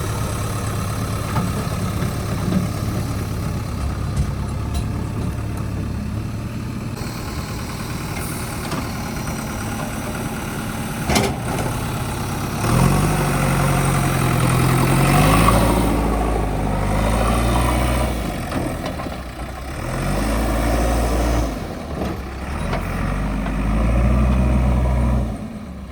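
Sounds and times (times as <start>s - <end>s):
diesel engine idling and revving: 0.0s - 25.9s.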